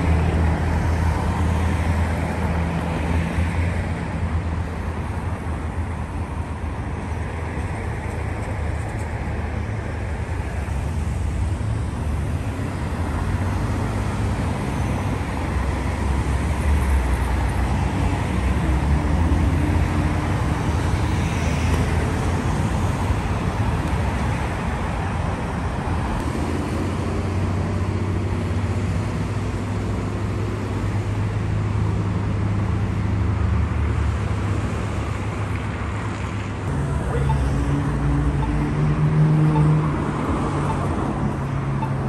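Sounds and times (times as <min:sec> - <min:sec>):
loud engine hum: 0:00.0 - 0:42.0
road traffic: 0:00.0 - 0:42.0.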